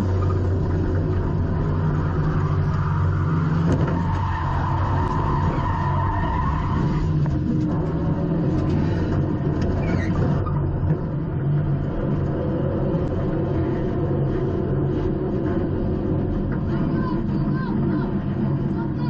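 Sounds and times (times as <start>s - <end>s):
race car engine: 0.0s - 19.0s
road noise: 0.0s - 19.0s.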